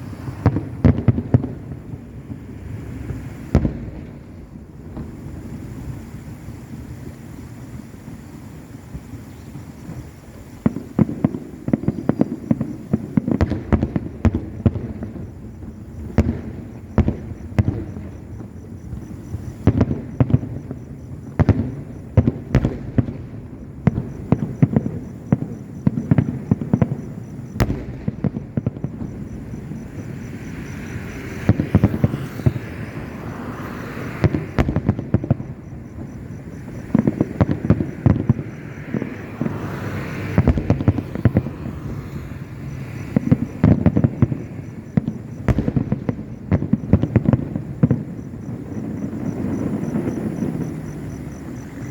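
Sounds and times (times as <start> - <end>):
fireworks booming and cracking: 0.0 - 51.9.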